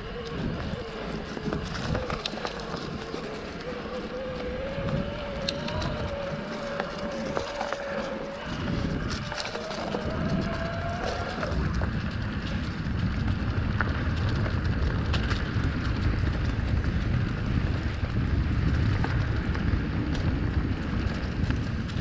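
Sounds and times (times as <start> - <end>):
bike clicks and rattles: 0.0 - 22.0
electric bike motor whining: 0.0 - 22.0
tyre rumble on dirt trail: 0.0 - 22.0
wind rumble on microphone: 0.0 - 22.0.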